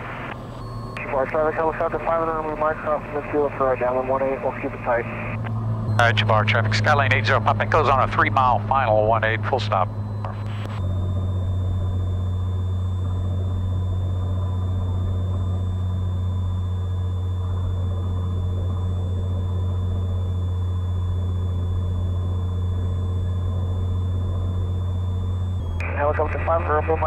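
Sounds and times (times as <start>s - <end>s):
aircraft engine and propeller droning: 0.0s - 27.0s
thin high whine: 0.0s - 27.0s.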